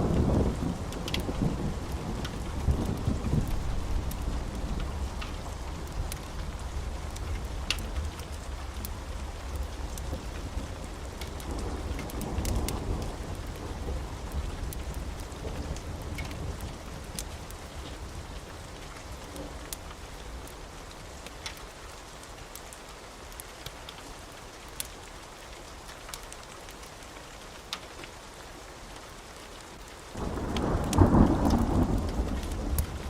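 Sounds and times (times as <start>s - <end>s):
wood fire crackling: 0.0s - 28.2s, 28.9s - 33.0s.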